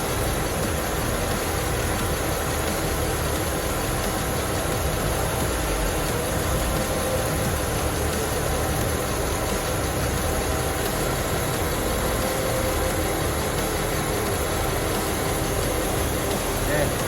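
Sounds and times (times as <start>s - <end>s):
car wheel bearing hum: 0.0s - 17.0s.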